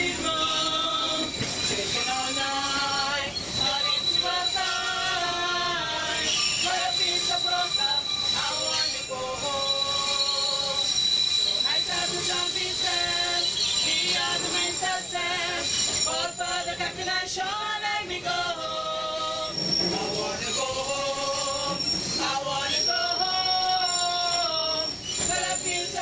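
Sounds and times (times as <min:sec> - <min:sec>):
women singing in harmony: 0:00.0 - 0:09.8, 0:11.7 - 0:26.0
high squeal of wheels: 0:00.0 - 0:26.0
train running noise: 0:00.0 - 0:26.0.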